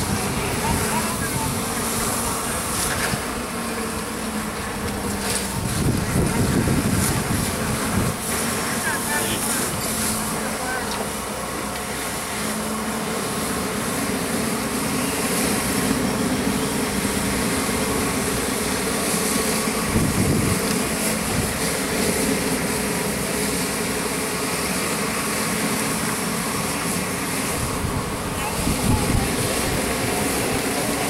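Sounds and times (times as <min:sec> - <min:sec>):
fire engine pump running: 0:00.0 - 0:31.0
water and steam hissing: 0:00.0 - 0:31.0.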